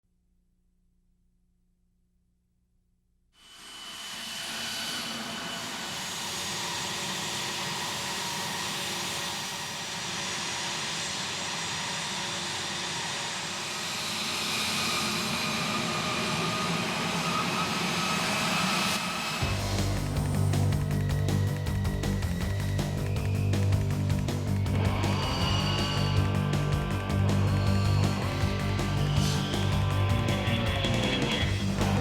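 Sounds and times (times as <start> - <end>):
jet engine running: 3.6 - 32.0.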